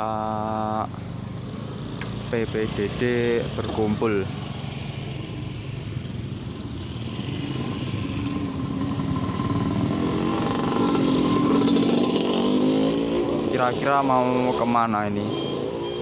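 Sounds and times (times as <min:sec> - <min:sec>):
scooters and motorcycles passing: 0:00.0 - 0:16.0.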